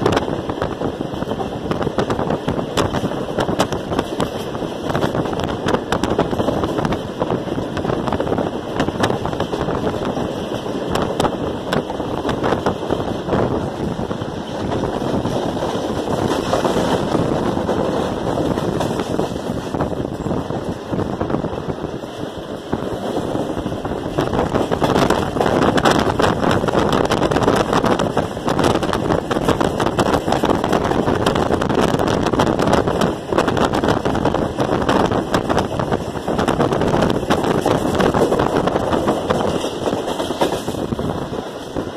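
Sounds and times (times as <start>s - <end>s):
rushing wind: 0.0s - 41.9s
train wheels rumbling on track: 0.0s - 41.9s.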